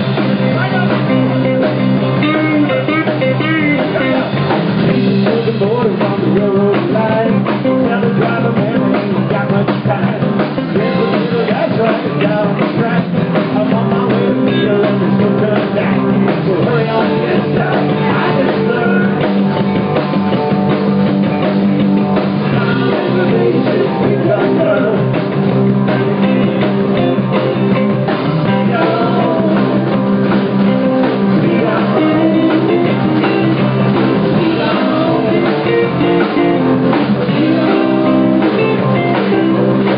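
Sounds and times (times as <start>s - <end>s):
person singing: 0.0s - 19.4s, 22.4s - 25.2s, 25.8s - 39.9s
bass guitar: 0.0s - 39.9s
drum kit: 0.0s - 39.9s
electric guitars: 0.0s - 39.9s.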